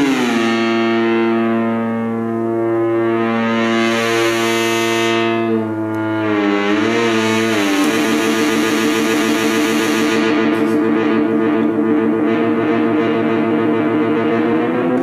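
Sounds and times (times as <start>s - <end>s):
buzzy synthesizer tone: 0.0s - 15.0s.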